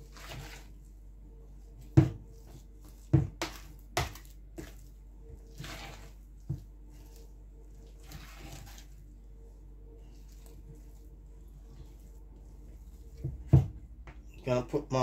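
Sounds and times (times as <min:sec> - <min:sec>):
dough squelching in a plastic bowl: 0:00.0 - 0:15.0.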